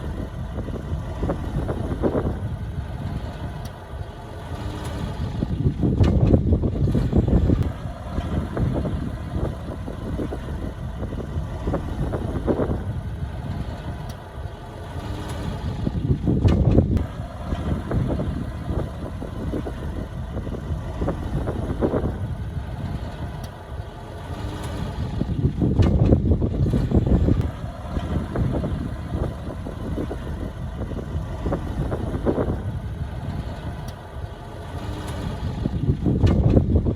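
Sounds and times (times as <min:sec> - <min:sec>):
heavy diesel engine rumbling: 0:00.0 - 0:36.9.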